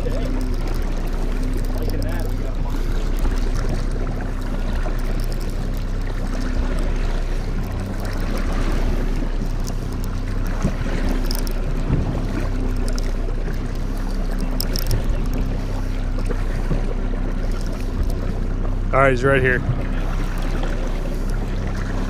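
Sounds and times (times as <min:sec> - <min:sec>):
outboard motor running: 0:00.0 - 0:22.0
water slapping boat hull: 0:00.0 - 0:22.0
wind: 0:00.0 - 0:22.0.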